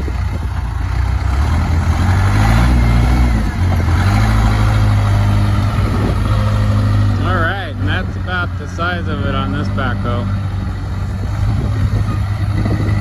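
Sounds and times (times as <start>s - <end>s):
backhoe diesel engine: 0.0s - 13.0s.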